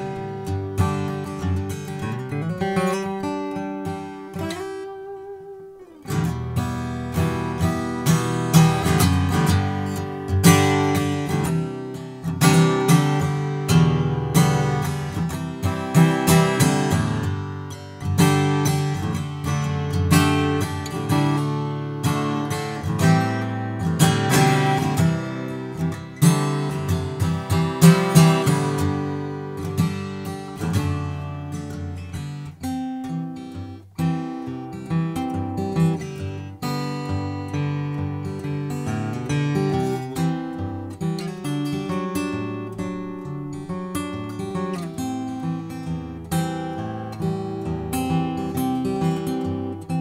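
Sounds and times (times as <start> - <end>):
acoustic guitar strummed and picked: 0.0 - 50.0.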